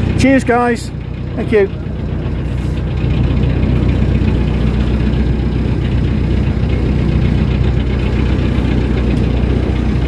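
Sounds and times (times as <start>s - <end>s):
diesel boat engine running: 0.0s - 10.0s.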